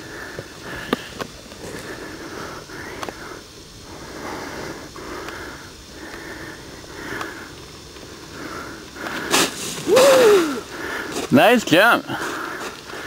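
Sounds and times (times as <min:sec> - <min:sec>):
person breathing rhythmically: 0:00.0 - 0:11.3, 0:12.1 - 0:13.0.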